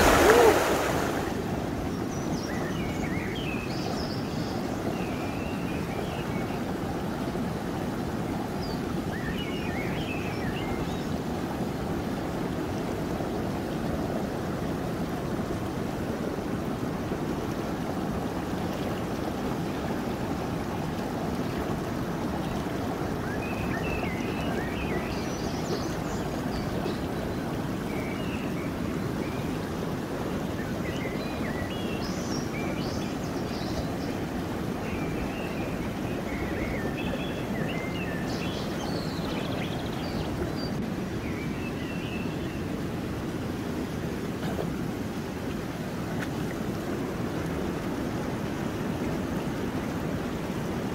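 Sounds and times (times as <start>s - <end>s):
water rushing over rocks: 0.0s - 50.9s.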